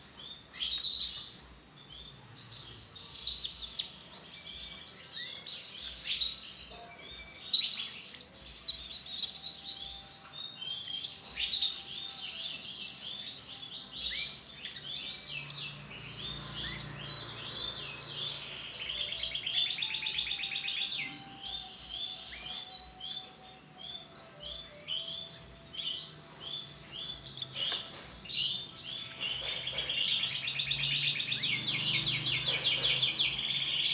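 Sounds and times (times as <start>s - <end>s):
canary chirping and singing: 0.0s - 33.9s.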